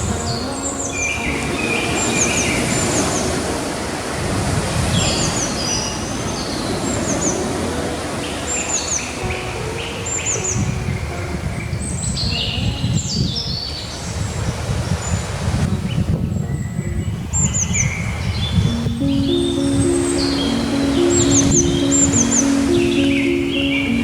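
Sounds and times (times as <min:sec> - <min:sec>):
ocean surf on a beach: 0:00.0 - 0:24.0.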